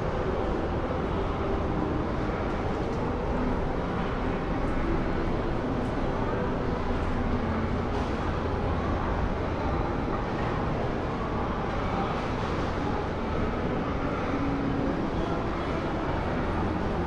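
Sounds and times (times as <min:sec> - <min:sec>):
low hum of shopping mall: 0:00.0 - 0:17.0.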